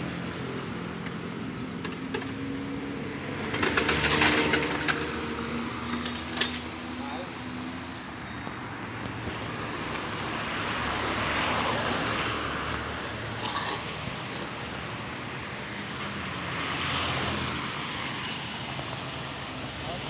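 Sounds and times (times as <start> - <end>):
vehicles passing: 0.0 - 20.0.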